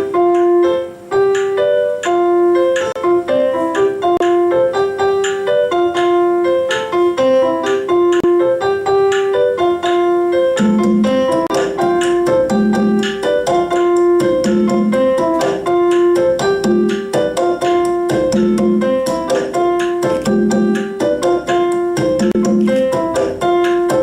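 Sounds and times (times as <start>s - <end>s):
piano playing latin pattern: 0.0s - 24.0s.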